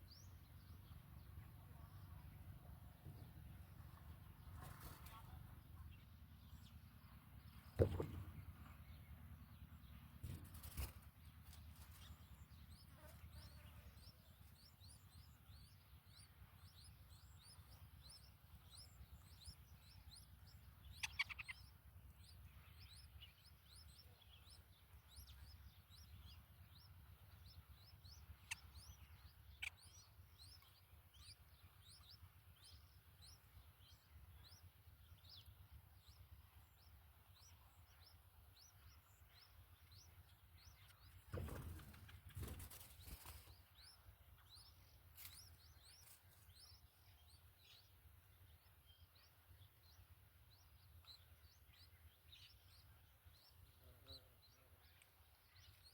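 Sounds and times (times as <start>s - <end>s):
small birds chirping: 0.0s - 55.9s
low background rumble: 0.1s - 55.9s.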